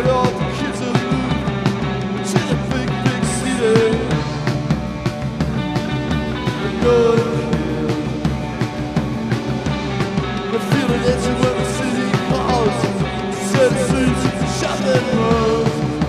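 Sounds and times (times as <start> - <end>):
live rock band playing: 0.0 - 16.0
steady drum beat: 0.0 - 16.0.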